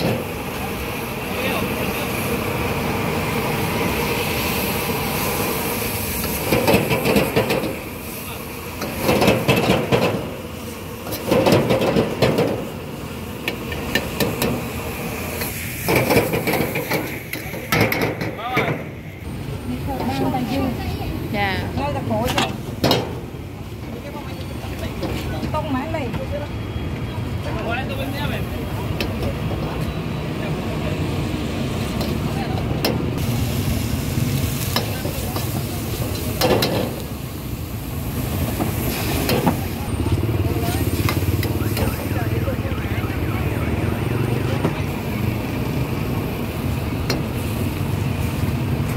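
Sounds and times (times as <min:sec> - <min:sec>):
low traffic rumble: 0:00.0 - 0:48.9
steady background noise: 0:00.0 - 0:48.9.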